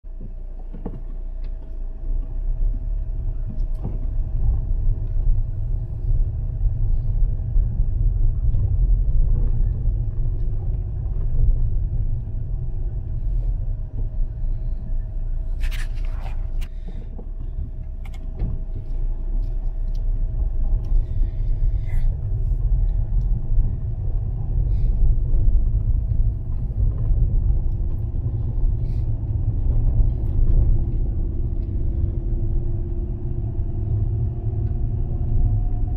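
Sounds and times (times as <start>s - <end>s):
car driving on snow: 0.1s - 35.9s
faint whine: 0.1s - 35.9s.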